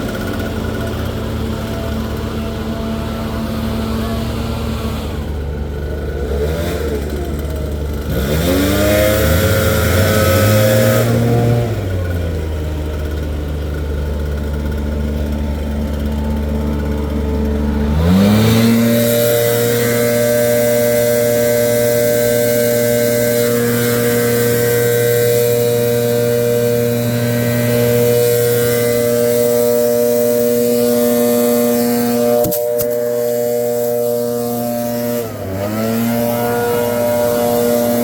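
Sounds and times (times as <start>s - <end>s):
leaf blower engine revving: 0.0s - 38.0s.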